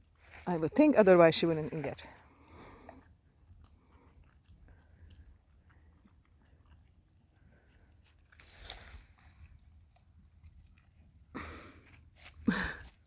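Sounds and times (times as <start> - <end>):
grass rustling: 0.0 - 6.2, 7.2 - 13.0
dog chewing grass: 0.0 - 12.4.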